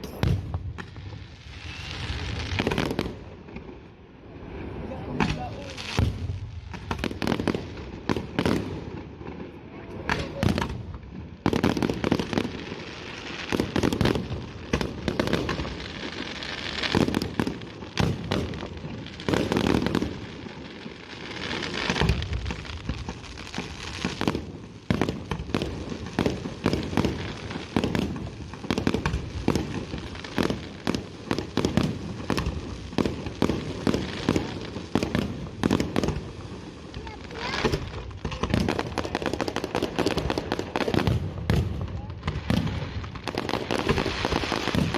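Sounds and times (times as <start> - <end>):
fireworks bursting: 0.0 - 44.9.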